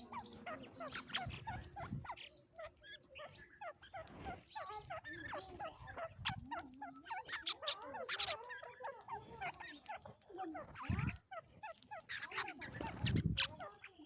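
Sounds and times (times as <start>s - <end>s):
flock of birds chirping: 0.0s - 14.0s.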